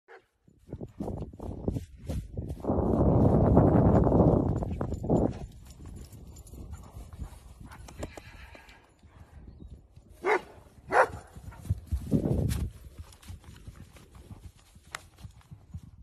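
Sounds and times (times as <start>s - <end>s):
horse hooves thudding on grass: 0.1s - 9.1s, 10.0s - 16.0s.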